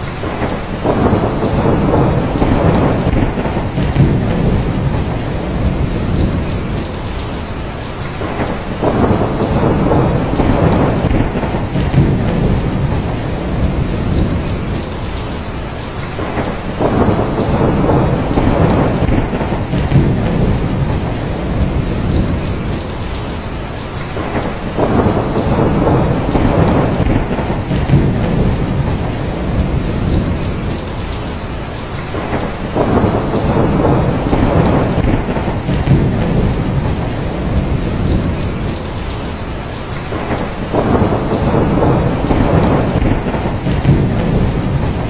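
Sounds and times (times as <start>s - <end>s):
heavy rain falling: 0.0s - 45.0s
thunder rumbling: 0.0s - 45.0s.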